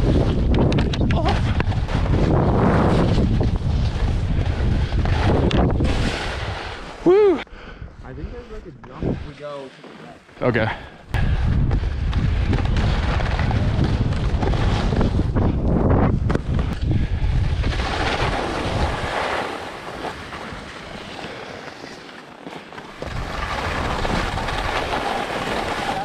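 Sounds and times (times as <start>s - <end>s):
wind buffeting microphone: 0.0s - 9.3s, 10.5s - 19.2s, 23.0s - 26.0s
skis hissing and scraping on snow: 1.3s - 7.4s, 8.1s - 15.6s, 16.5s - 26.0s.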